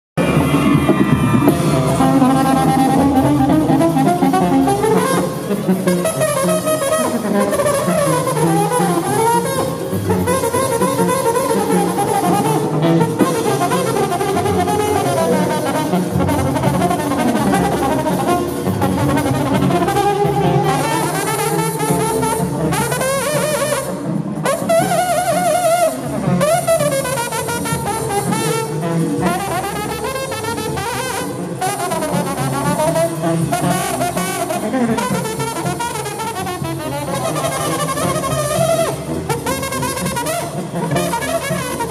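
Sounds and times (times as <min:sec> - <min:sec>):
brass band backing: 0:00.2 - 0:41.9
trombone solo: 0:00.2 - 0:41.9.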